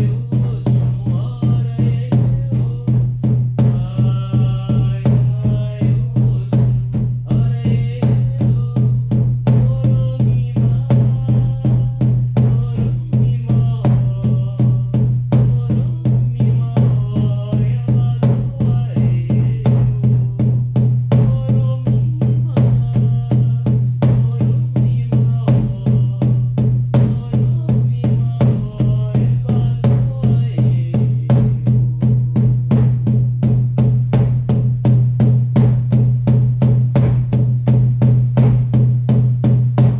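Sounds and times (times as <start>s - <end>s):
voices chanting wordless melody: 0.0s - 32.5s
frame drums beating: 0.0s - 39.9s.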